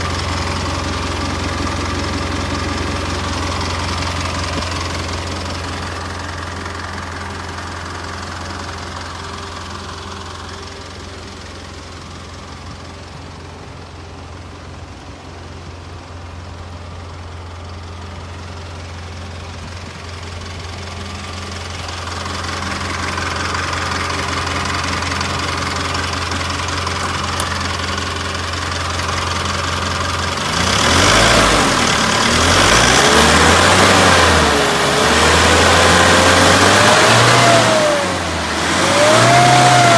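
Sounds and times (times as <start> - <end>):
truck engine idling and revving: 0.0 - 39.9.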